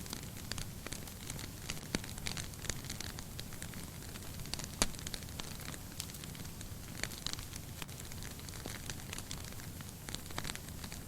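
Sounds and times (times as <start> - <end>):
low rumble of flames: 0.0 - 11.0
wood fire crackling and popping: 0.0 - 11.0.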